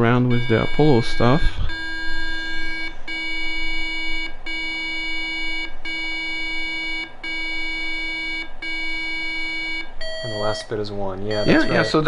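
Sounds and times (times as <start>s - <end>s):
computer speaker beeps: 0.0s - 8.3s, 8.9s - 12.0s.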